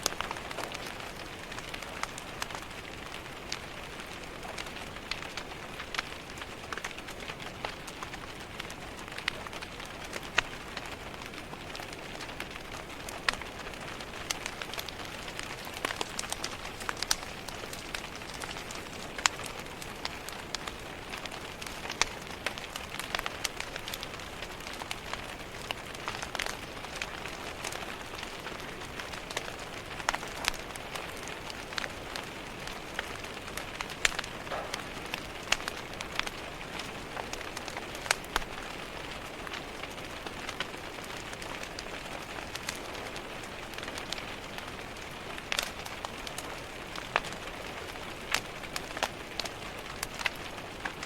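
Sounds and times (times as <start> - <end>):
fireplace fire crackling: 0.0 - 51.0
rain tapping on window glass: 0.0 - 51.0.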